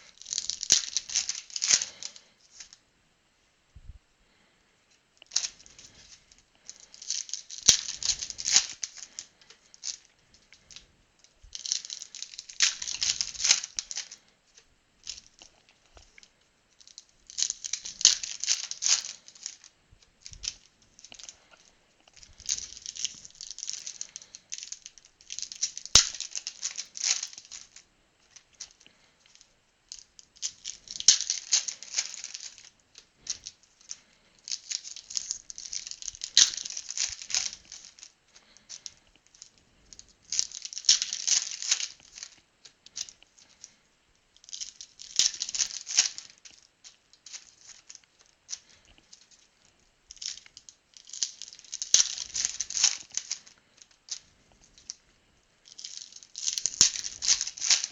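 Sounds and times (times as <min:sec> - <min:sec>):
wrapping torn and crinkled: 0:00.0 - 0:02.8, 0:05.2 - 0:10.9, 0:11.5 - 0:43.8, 0:44.4 - 0:57.9.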